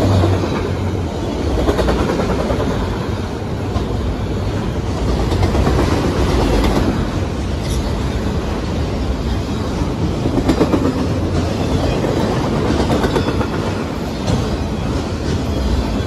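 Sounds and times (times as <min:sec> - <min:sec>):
freight train rumbling past: 0:00.0 - 0:16.0
train wheels clacking on rails: 0:00.0 - 0:16.0.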